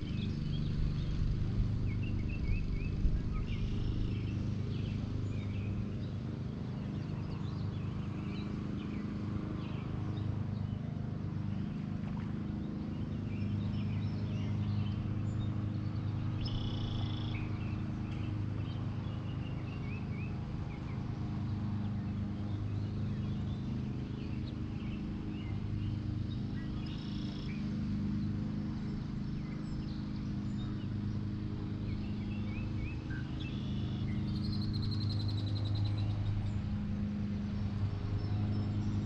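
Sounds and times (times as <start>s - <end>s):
birds chirping: 0.0s - 39.0s
steady low hum: 0.0s - 39.0s.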